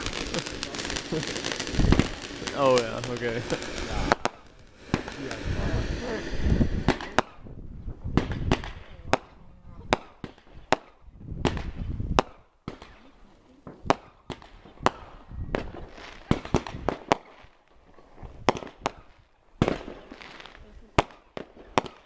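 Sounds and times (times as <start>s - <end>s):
fireworks bursting with sharp bangs: 0.0s - 22.0s.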